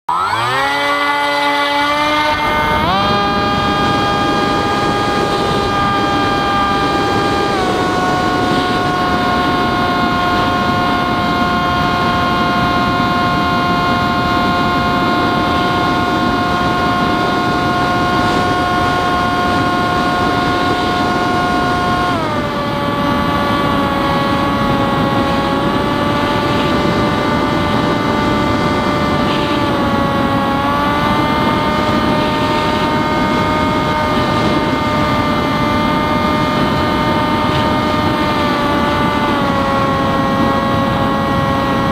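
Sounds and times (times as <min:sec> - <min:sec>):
electric motor and propeller whining: 0:00.0 - 0:41.9
wind rushing: 0:00.6 - 0:41.9.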